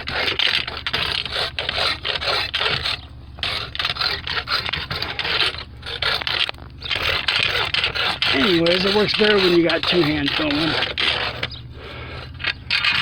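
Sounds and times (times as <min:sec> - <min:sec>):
metal blade scraping paint: 0:00.0 - 0:13.0.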